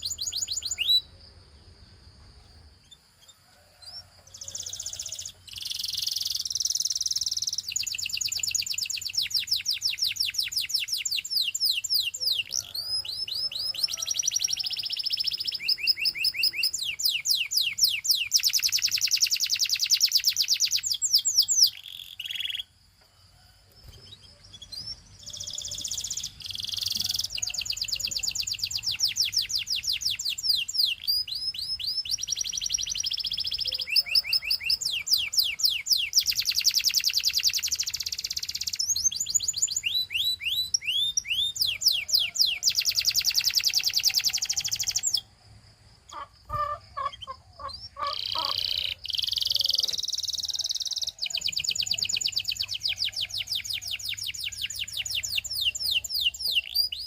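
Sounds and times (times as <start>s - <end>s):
canary singing trills: 0.0s - 1.6s, 2.4s - 22.8s, 23.8s - 45.4s, 46.0s - 57.0s.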